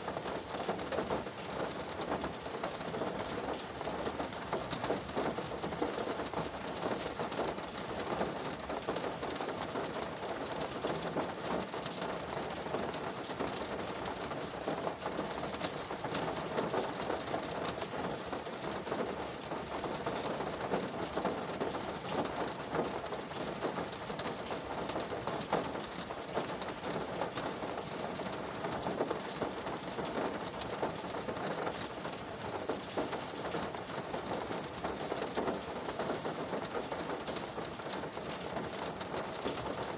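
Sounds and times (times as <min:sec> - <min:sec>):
rain on a car: 0:00.0 - 0:39.9.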